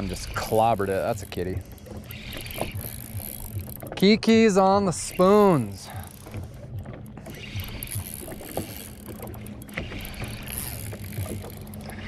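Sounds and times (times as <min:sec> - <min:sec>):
fishing reel clicks: 0:00.0 - 0:03.9, 0:04.9 - 0:06.4, 0:07.2 - 0:12.0
water lapping against boat hull: 0:00.0 - 0:12.0.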